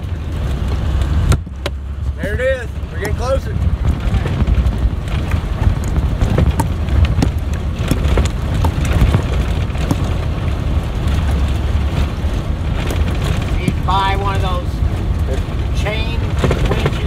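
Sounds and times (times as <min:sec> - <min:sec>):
bus engine and tyres rumbling: 0:00.0 - 0:17.0
bus jolting with clicks and knocks: 0:02.8 - 0:17.0.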